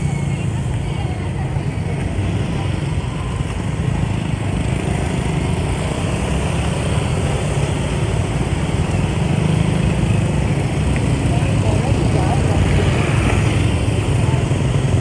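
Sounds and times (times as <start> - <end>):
low drone of many engines: 0.0 - 15.0
motorbike engine running: 0.0 - 15.0
road noise: 0.0 - 15.0.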